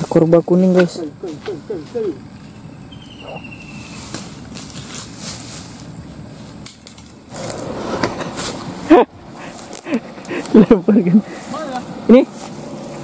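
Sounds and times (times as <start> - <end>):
insect droning: 0.0 - 13.0.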